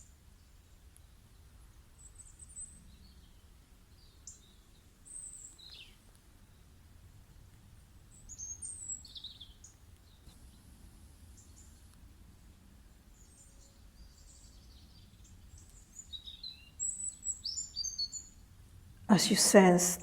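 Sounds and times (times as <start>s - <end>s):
small birds chirping: 0.0s - 6.8s, 8.1s - 12.0s, 13.0s - 18.5s.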